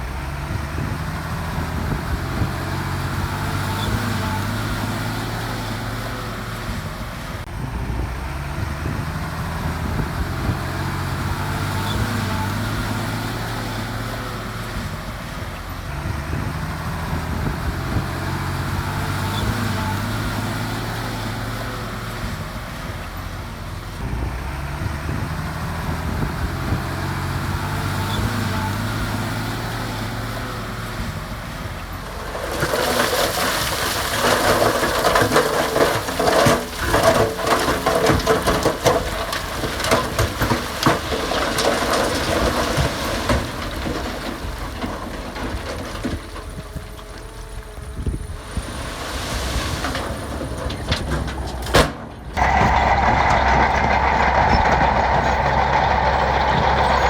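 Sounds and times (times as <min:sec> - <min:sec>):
bulldozer diesel engine: 0:00.0 - 0:57.0
gravel crunching: 0:00.0 - 0:57.0.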